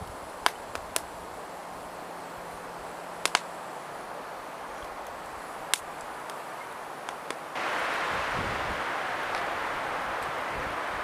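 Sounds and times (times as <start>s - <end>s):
steady soft hiss: 0.0s - 11.0s.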